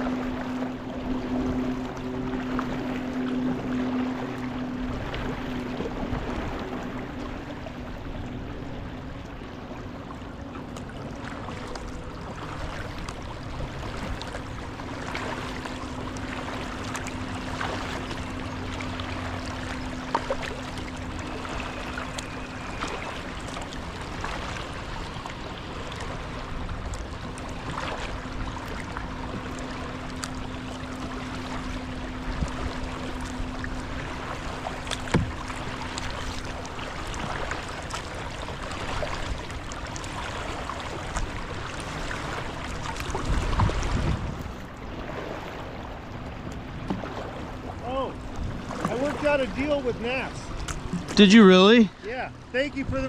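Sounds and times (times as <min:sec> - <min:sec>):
low hum: 0:00.0 - 0:52.8
paddle stroke splashes: 0:00.0 - 0:53.0
water lapping around kayak: 0:00.0 - 0:53.0.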